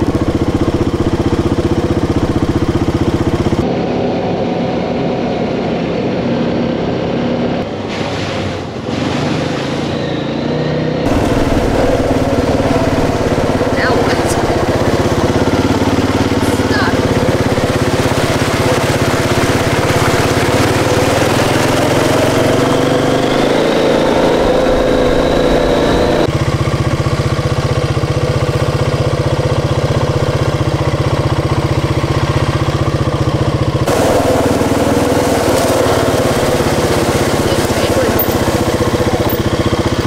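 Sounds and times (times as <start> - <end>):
atv engine running: 0.0 - 8.0, 8.8 - 40.0.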